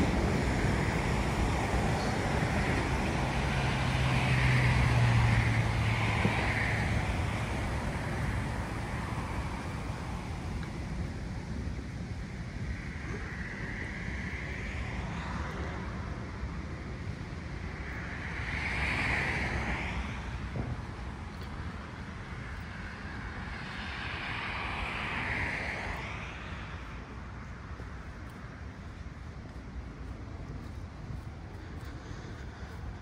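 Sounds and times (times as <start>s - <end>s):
cars passing with tyre noise: 0.0s - 33.0s
wind rumble on microphone: 0.0s - 33.0s.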